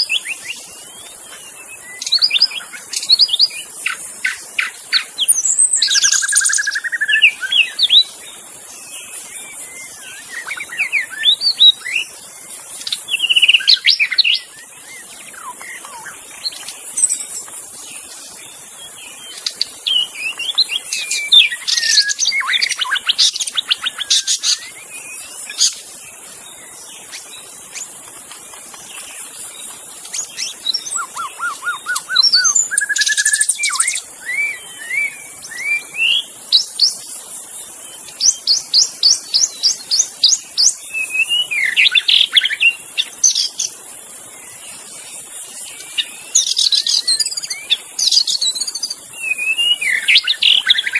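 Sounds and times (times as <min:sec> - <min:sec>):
songbird singing: 0:00.0 - 0:50.9
steady high hiss: 0:00.0 - 0:50.9.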